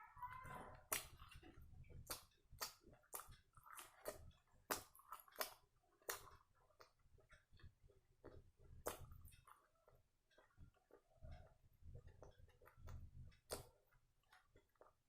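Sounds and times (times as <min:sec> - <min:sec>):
person chewing wet food: 0:00.0 - 0:15.0.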